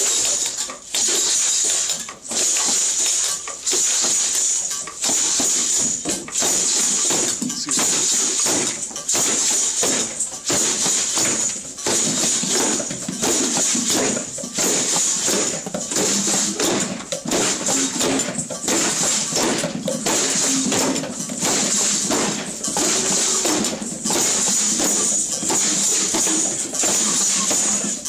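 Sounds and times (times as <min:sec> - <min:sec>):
drumming on metal pot: 0:00.0 - 0:28.0
drumming on plastic tub: 0:00.0 - 0:28.0
plastic shakers rattling: 0:00.0 - 0:28.0.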